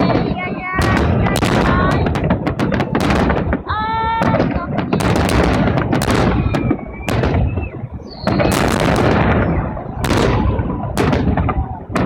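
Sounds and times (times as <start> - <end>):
fireworks booming: 0.0 - 12.0
rumbling echo: 0.0 - 12.0.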